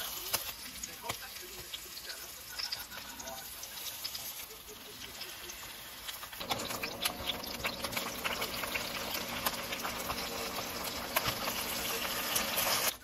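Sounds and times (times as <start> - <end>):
cabbage frying in oil: 0.0 - 13.0.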